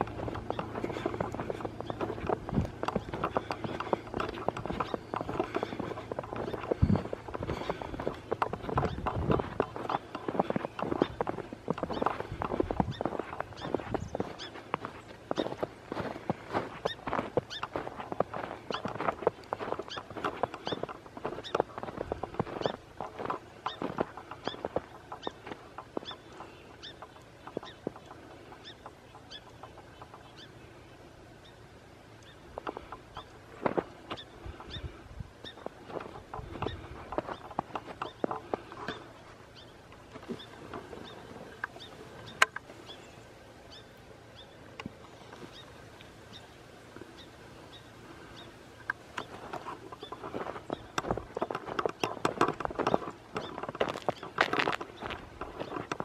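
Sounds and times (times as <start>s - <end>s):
footsteps squeaking on snow: 0.0s - 30.5s, 32.6s - 42.5s, 49.2s - 56.0s.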